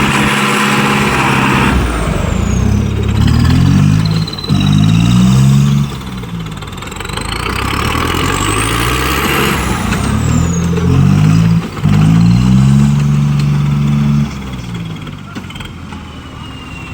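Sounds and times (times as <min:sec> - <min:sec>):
tractor diesel engine revving: 0:00.0 - 0:16.9.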